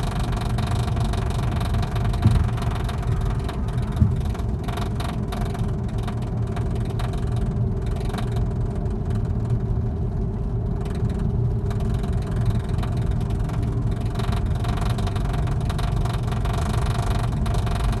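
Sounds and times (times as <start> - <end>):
car engine and road noise: 0.0 - 18.0
constant hum: 0.0 - 18.0.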